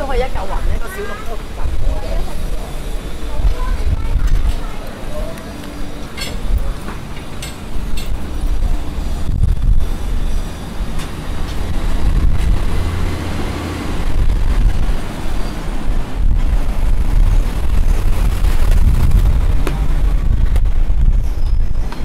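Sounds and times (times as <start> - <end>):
street traffic passing: 0.0 - 22.0
wind rumble on microphone: 0.0 - 22.0.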